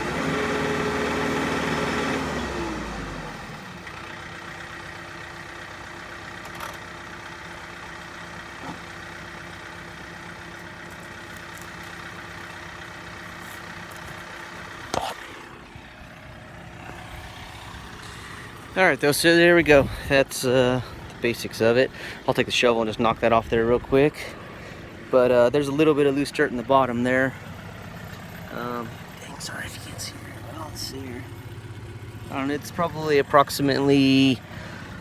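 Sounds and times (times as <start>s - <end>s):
tractor diesel engine: 0.0s - 35.0s.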